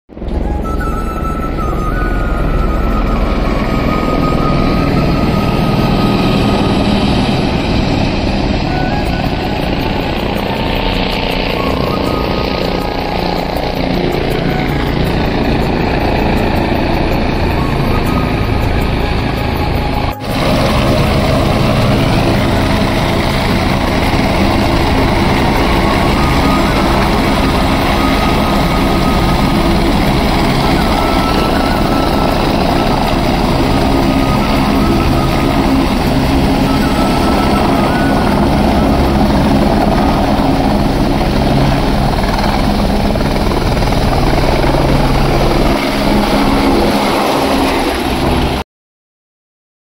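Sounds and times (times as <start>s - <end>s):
helicopter rotor running: 0.1s - 48.6s.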